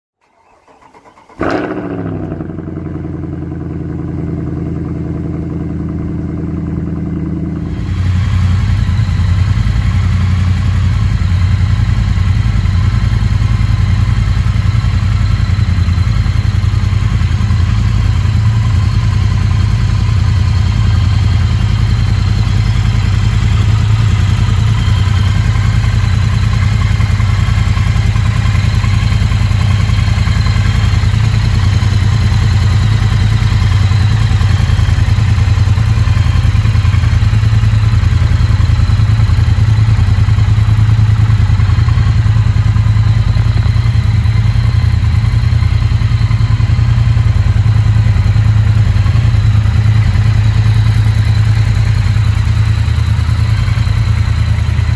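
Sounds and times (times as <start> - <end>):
motorcycle engine idling: 0.6 - 54.9.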